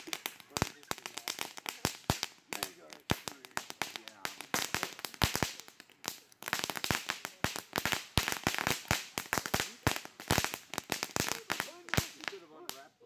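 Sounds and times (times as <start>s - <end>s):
hiss of spraying sparks: 0.0s - 12.4s
fireworks cracking and popping: 0.0s - 13.0s.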